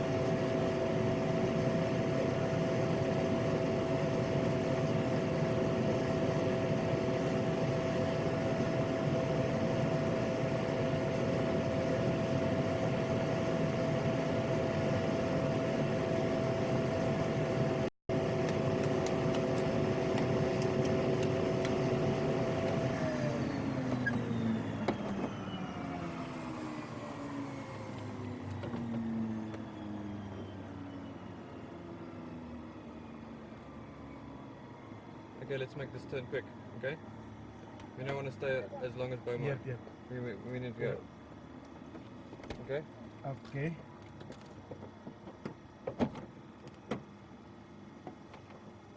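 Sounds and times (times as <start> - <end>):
turboprop engine running: 0.0 - 48.9.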